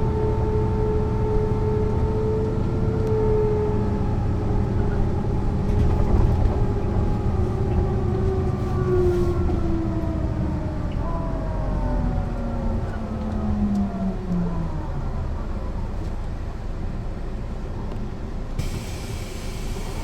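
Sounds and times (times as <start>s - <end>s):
bus engine rumble and whine: 0.0s - 20.0s.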